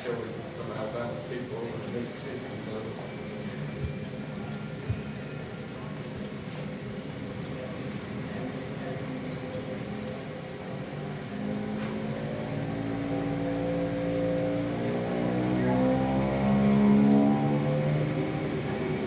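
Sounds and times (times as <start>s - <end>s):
turboprop engine spooling up: 0.0s - 19.0s.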